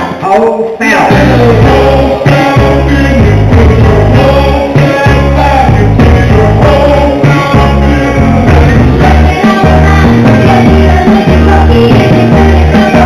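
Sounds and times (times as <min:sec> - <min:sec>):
dance music with sung vocal: 0:00.0 - 0:13.0.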